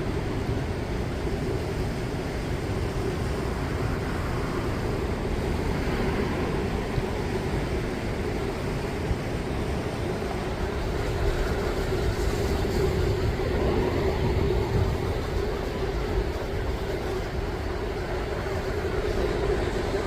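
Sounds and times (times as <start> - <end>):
heavy sea surf: 0.0 - 20.0
wind buffeting microphone: 0.0 - 20.0.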